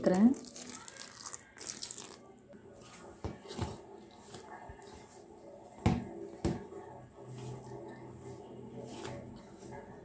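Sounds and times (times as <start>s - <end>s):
flour rustling: 0.0s - 5.4s, 7.2s - 10.0s.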